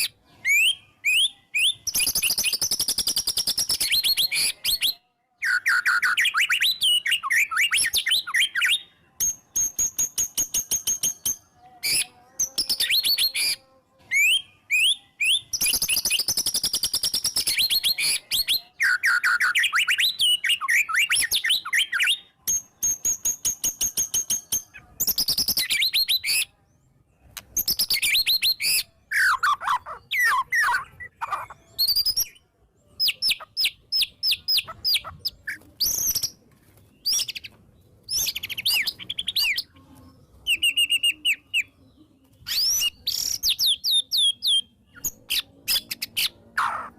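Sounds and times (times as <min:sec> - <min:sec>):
songbird singing trills and whistles: 0:00.0 - 0:46.9.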